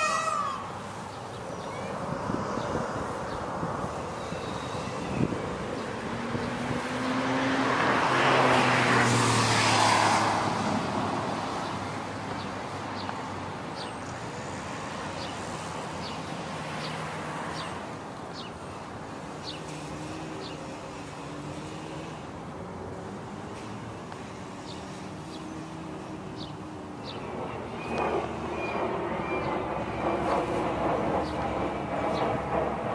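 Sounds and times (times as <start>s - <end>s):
car passing by: 0.0s - 18.5s, 19.1s - 32.9s
traffic noise: 0.0s - 32.9s.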